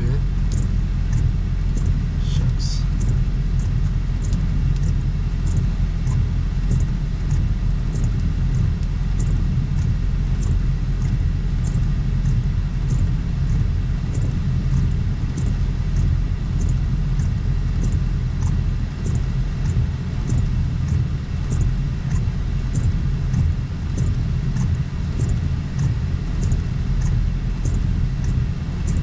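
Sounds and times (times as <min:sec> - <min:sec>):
car engine idling: 0:00.0 - 0:29.0
faint high tick: 0:00.5 - 0:01.9, 0:03.0 - 0:29.0.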